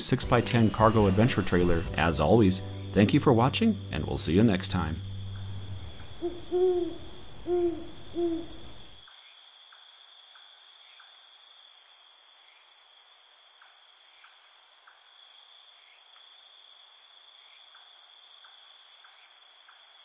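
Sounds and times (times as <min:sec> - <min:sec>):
insect chirps: 0:00.0 - 0:20.0
insects trilling: 0:00.0 - 0:20.0.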